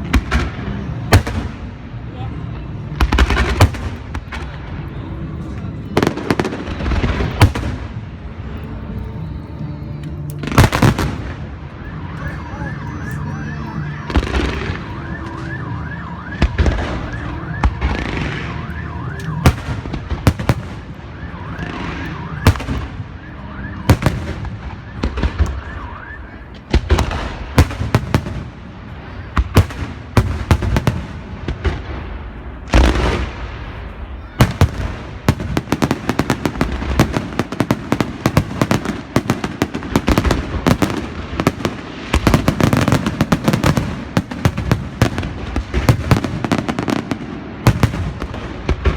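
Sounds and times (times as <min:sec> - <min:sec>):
fireworks bangs and crackling: 0:00.0 - 0:09.4, 0:10.0 - 0:48.9.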